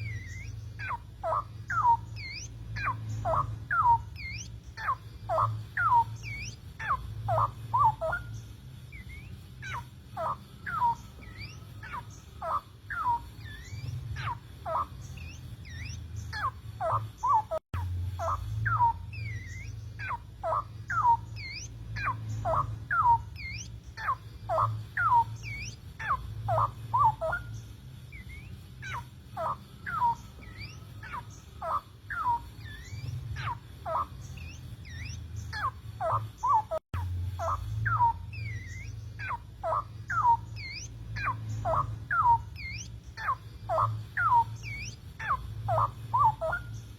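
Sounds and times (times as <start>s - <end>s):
bird singing whistled notes: 0.0s - 46.9s
steady low hum: 0.0s - 46.9s.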